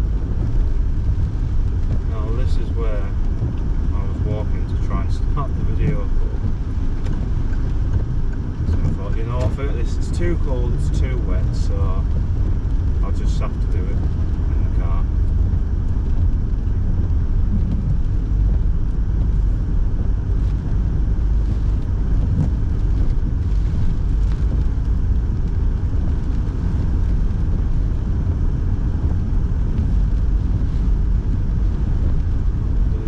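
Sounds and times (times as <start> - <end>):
car engine and road noise: 0.0 - 33.0
heater fan blowing: 0.0 - 33.0.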